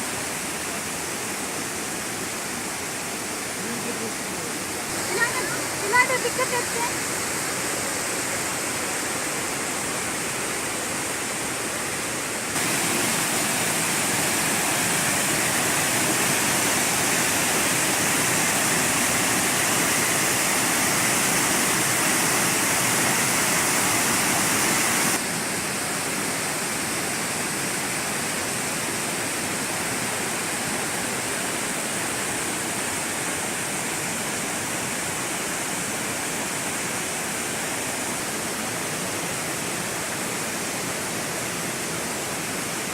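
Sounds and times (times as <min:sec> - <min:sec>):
waterfall and stream rushing: 0:00.0 - 0:42.9.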